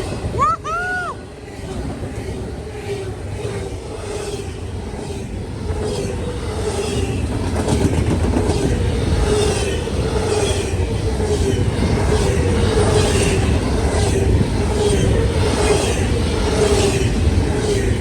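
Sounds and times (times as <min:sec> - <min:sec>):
train wheels clattering over rails: 0:01.6 - 0:18.0.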